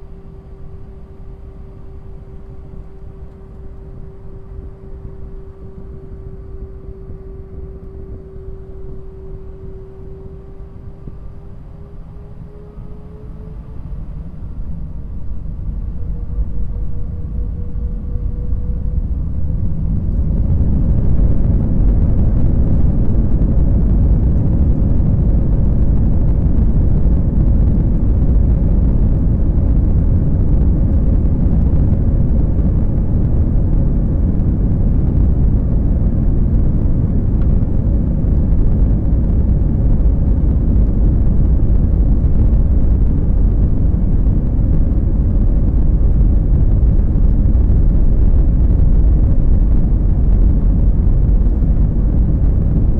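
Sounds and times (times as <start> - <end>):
faint steady hum: 0.0 - 52.9
jet engines roaring in cabin: 0.0 - 52.9.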